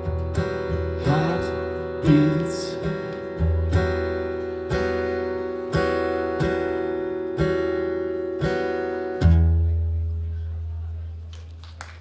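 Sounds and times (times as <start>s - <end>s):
baritone guitar strumming chords: 0.0s - 10.3s.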